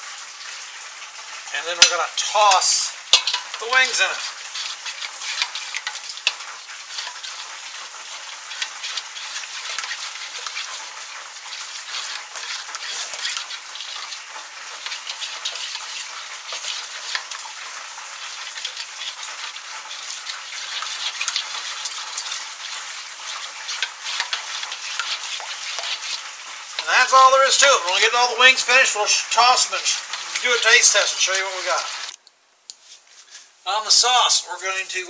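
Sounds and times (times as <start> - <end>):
food deep-frying in oil: 0.0 - 35.0.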